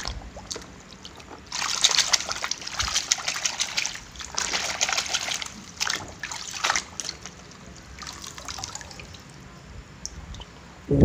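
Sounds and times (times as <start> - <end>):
water splashing and sloshing: 0.0 - 10.6.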